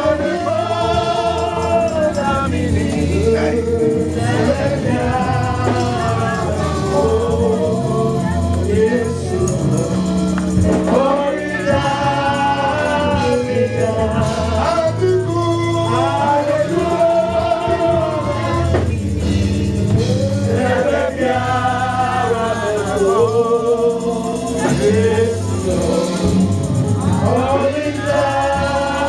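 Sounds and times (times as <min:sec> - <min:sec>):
bass and keyboard backing: 0:00.0 - 0:29.0
voices singing together: 0:00.0 - 0:29.0.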